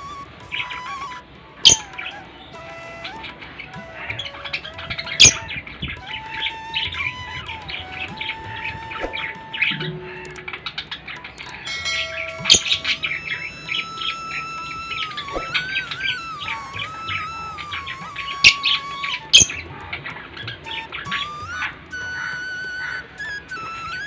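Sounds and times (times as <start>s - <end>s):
whistled notes: 0.0s - 24.0s.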